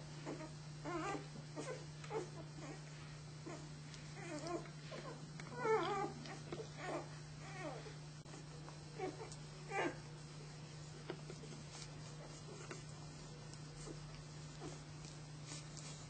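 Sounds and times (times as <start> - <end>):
puppies whimpering and squeaking: 0.2 - 10.4, 11.6 - 16.0.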